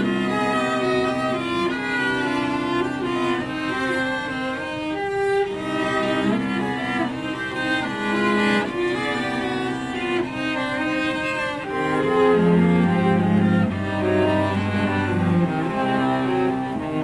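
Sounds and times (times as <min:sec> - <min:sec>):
cellos bowing sustained notes: 0:00.0 - 0:17.0.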